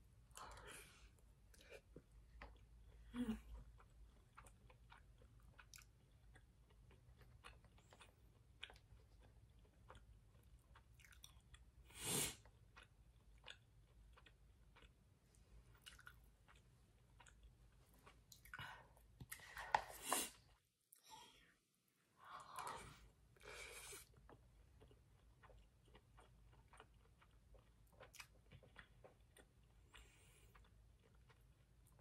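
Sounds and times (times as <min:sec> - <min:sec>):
person chewing food: 0:00.2 - 0:20.6, 0:22.5 - 0:32.0.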